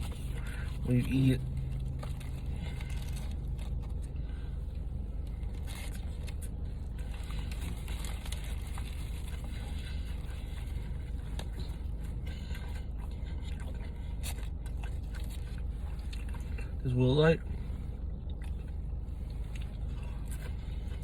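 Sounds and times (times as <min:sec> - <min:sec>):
crunching of food: 0:00.0 - 0:21.0
steady low rumble: 0:00.0 - 0:21.0.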